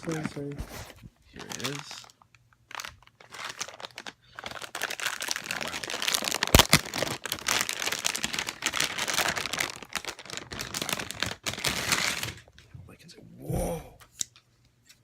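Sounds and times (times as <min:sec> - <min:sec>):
packaging crinkling and rustling: 0:00.0 - 0:12.6.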